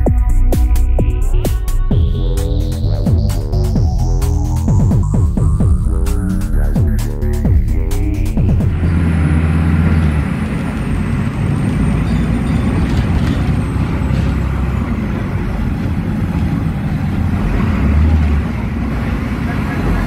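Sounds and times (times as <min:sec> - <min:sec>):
bus diesel engine humming: 0:00.0 - 0:20.0
road noise: 0:00.0 - 0:20.0.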